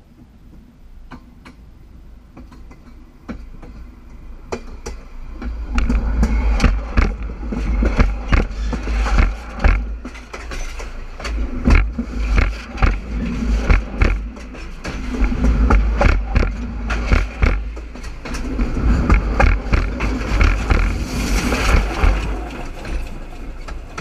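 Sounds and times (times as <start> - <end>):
approaching train rumble: 0.0 - 24.0
clicks and knocks through rails: 2.3 - 24.0.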